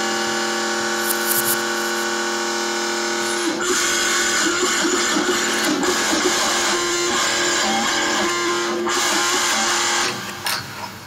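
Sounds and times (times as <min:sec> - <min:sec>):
distorted noise music: 0:00.0 - 0:10.0.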